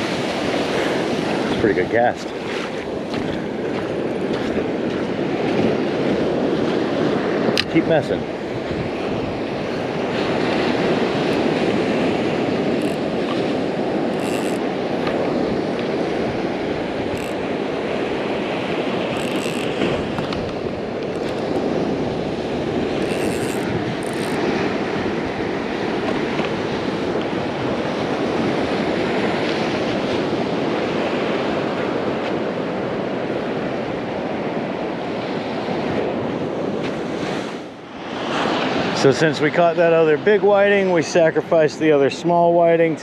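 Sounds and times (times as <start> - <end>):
wind noise on microphone: 0.0 - 39.2
ocean surf washing ashore: 0.0 - 43.0.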